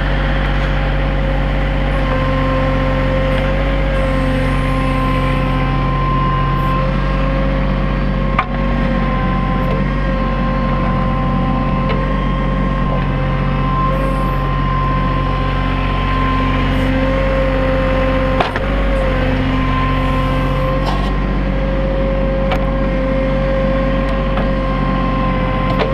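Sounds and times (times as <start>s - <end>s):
high whine: 0.0s - 23.0s
tractor diesel engine running: 0.0s - 25.9s.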